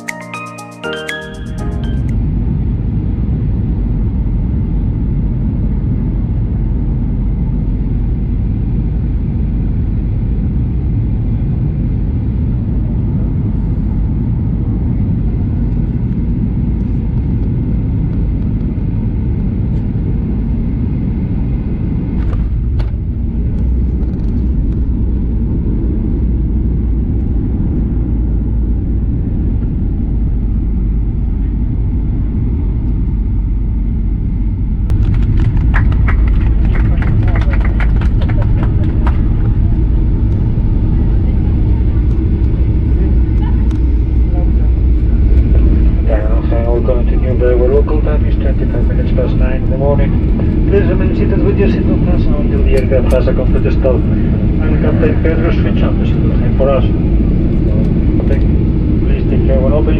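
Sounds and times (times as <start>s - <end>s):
aircraft cabin engine rumble: 1.7s - 59.9s.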